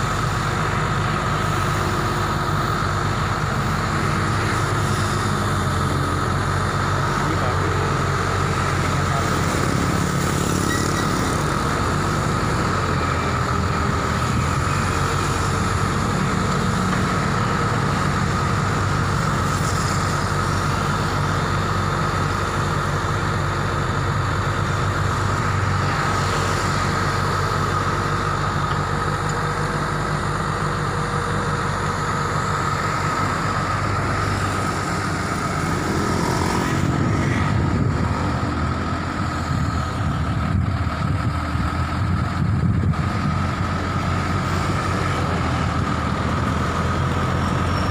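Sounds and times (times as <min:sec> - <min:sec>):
diesel engine running: 0:00.0 - 0:47.9
high hydraulic whine: 0:00.0 - 0:47.9.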